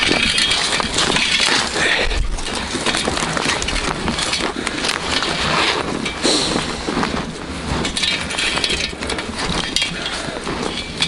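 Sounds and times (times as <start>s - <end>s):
branches scraping against clothing: 0.0s - 11.0s
footsteps crunching through snow: 0.0s - 11.0s.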